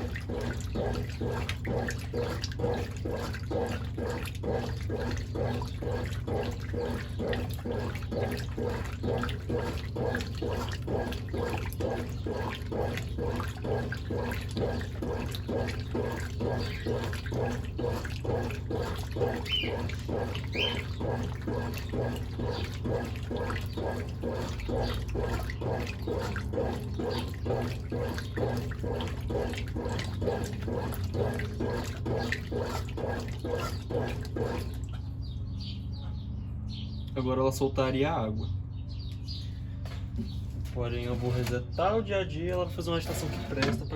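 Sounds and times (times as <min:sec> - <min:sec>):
washing machine motor hum: 0:00.0 - 0:36.0, 0:37.0 - 0:43.9
washing machine sloshing water: 0:00.0 - 0:36.0, 0:39.2 - 0:43.9.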